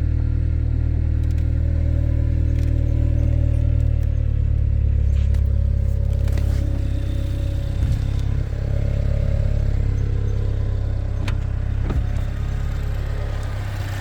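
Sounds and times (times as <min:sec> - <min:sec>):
car engine idling: 0:00.2 - 0:14.0.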